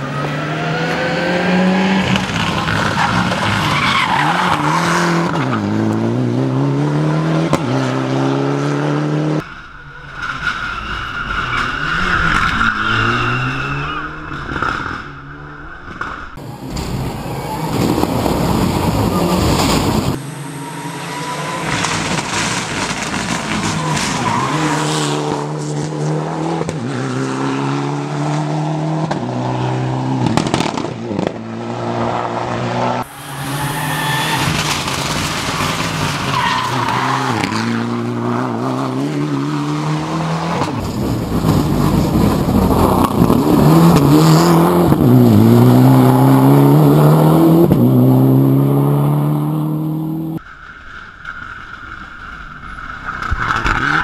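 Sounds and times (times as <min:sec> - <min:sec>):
rally car engine revving: 0:00.0 - 0:50.4.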